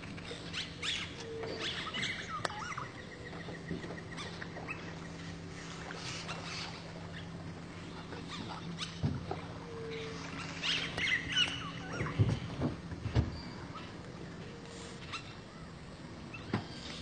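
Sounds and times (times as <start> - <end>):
low hum: 0.0 - 17.0
wild bird calls: 0.1 - 17.0.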